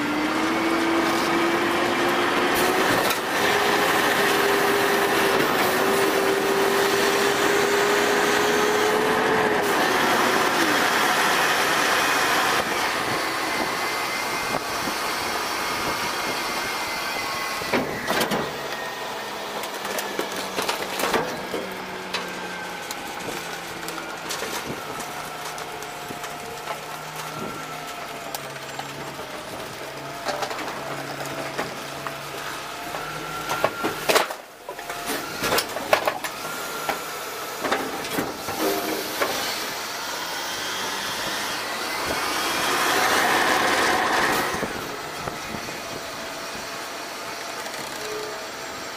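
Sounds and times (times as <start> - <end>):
garbage truck hydraulics whining: 0.0 - 48.9.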